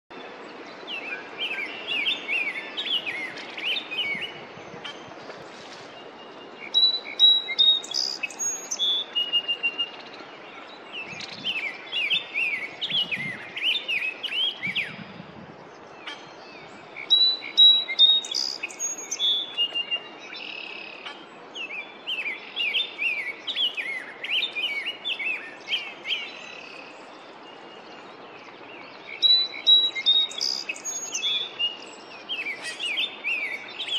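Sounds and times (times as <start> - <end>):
bird singing warbled phrases: 0.1 - 5.1, 6.0 - 33.9
faint outdoor hiss: 0.1 - 33.9.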